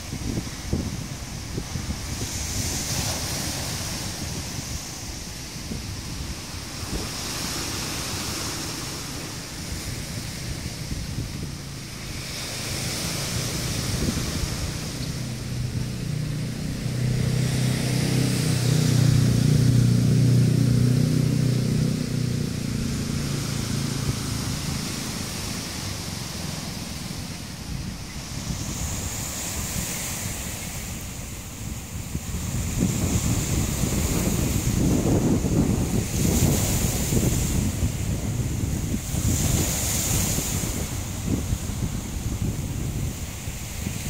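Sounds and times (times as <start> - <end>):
sea waves breaking on rocks: 0.0 - 44.0
wind buffeting microphone: 0.0 - 44.0.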